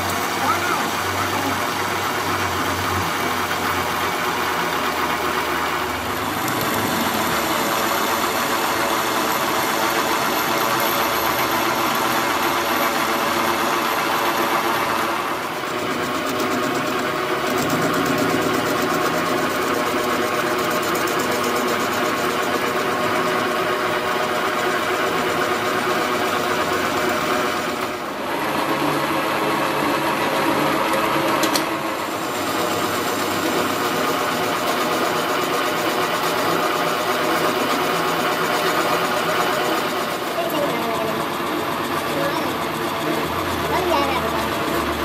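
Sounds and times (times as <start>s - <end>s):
metal lathe cutting steel: 0.0s - 45.0s.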